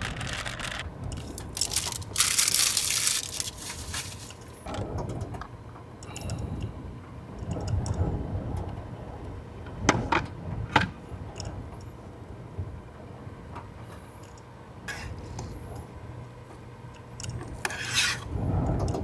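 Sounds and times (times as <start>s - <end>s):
strong wind rumbling around car: 0.8s - 16.3s, 17.2s - 19.0s.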